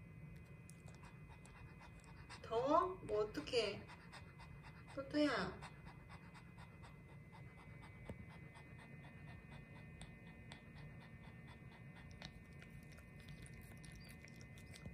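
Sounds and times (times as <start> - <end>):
dog panting quickly: 0.7 - 14.9.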